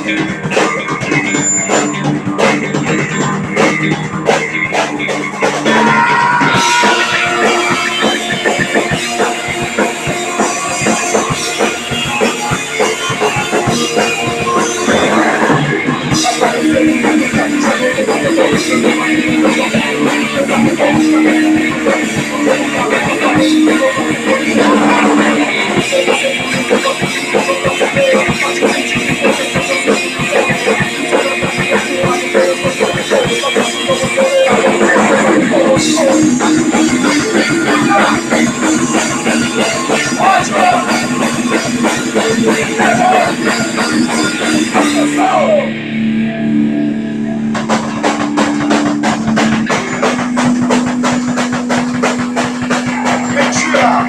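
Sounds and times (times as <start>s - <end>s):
punk rock band playing live: 0.0s - 54.0s.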